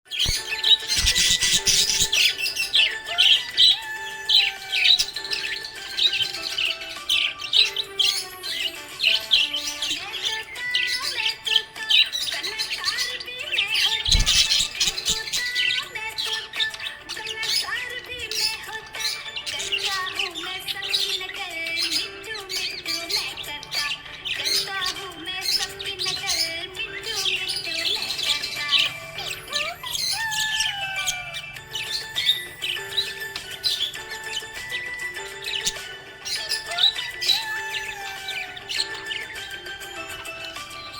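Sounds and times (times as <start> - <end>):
background music held notes: 0.1 - 40.9
budgerigars chirping: 0.1 - 40.9.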